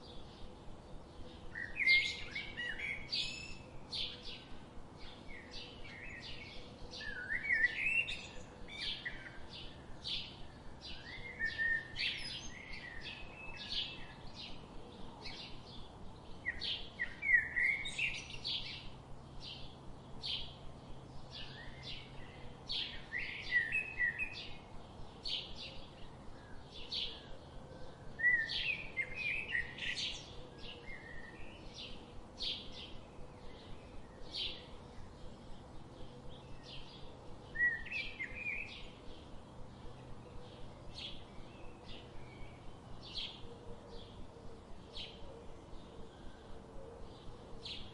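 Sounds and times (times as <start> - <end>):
faint steady hiss: 0.0 - 47.9
songbirds chirping: 0.0 - 47.9.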